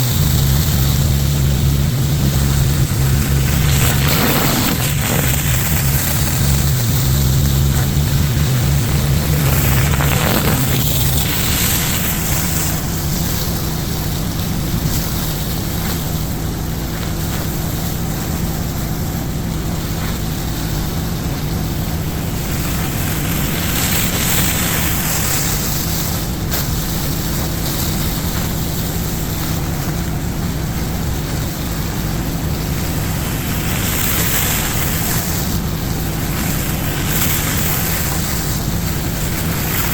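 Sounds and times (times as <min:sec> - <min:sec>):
pressure washer engine running: 0:00.0 - 0:39.9
water spraying on concrete: 0:00.0 - 0:39.9.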